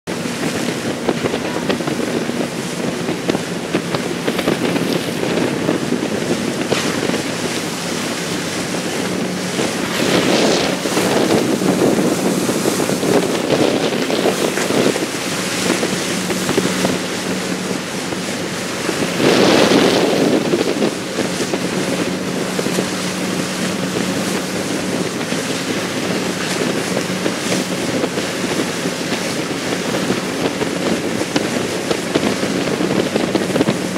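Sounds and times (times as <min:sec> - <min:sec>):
wake water rushing: 0:00.0 - 0:33.9
boat engine droning: 0:00.1 - 0:33.9
wind buffeting microphone: 0:00.1 - 0:33.9.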